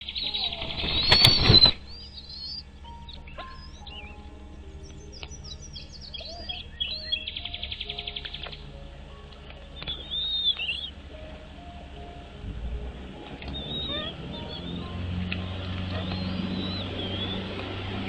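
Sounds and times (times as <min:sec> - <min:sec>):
birds trilling and chirping: 0:00.0 - 0:18.0
low steady hum: 0:00.0 - 0:18.0.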